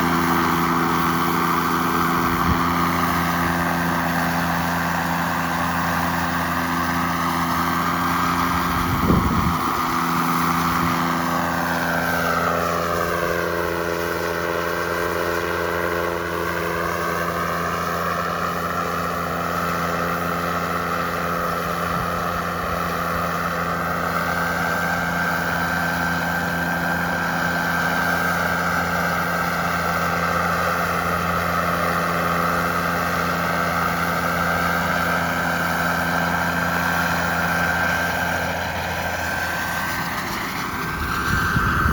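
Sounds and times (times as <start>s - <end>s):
low drone: 0.0s - 41.9s
model jet turbine whine: 0.0s - 41.9s.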